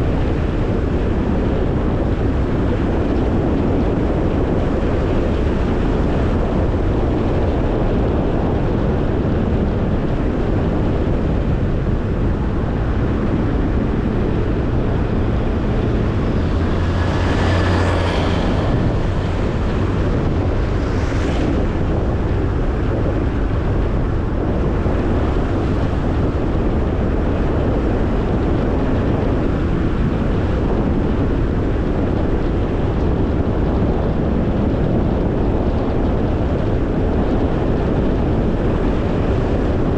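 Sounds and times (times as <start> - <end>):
car road and wind noise: 0.0 - 39.9.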